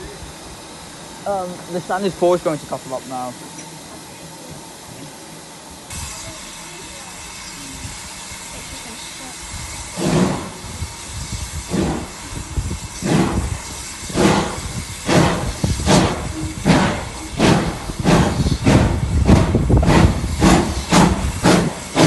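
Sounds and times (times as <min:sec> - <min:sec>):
steam hissing: 0:00.0 - 0:22.0
steam locomotive chuffing: 0:00.0 - 0:22.0.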